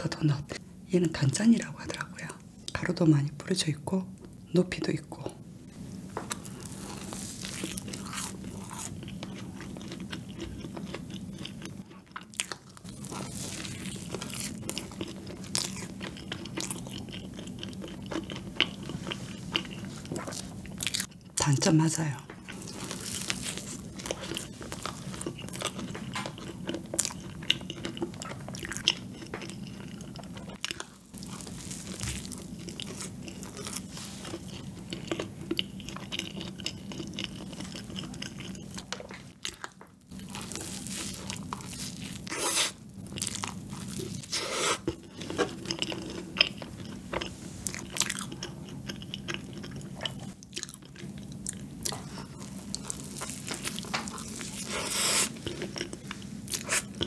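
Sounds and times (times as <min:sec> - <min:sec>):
steady low hum: 0:00.0 - 0:57.0
biting and chewing food: 0:06.2 - 0:21.3, 0:22.3 - 0:57.0.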